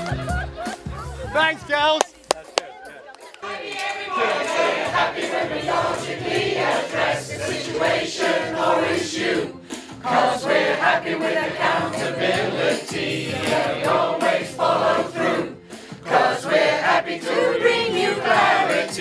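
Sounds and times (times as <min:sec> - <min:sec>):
backing music: 0:00.0 - 0:19.0
group singing in chorus: 0:03.4 - 0:19.0.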